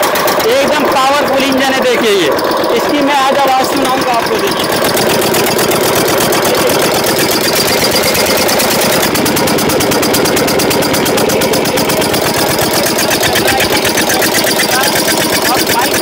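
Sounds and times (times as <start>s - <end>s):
diesel engine knocking: 0.0s - 16.0s.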